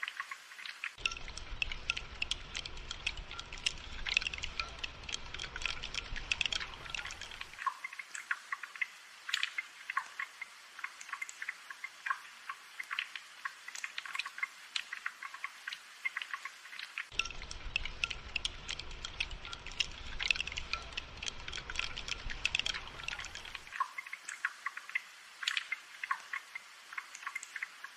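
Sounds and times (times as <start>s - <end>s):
rain dripping: 0.0s - 27.9s.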